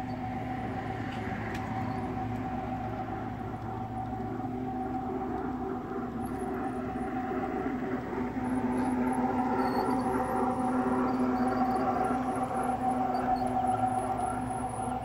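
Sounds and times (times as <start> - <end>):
model train motor hum: 0.0 - 15.0
wheels on rails: 0.0 - 15.0.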